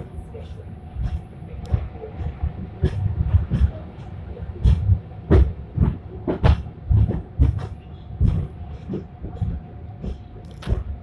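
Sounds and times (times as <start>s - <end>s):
funicular car rumbling on track: 0.0s - 11.0s.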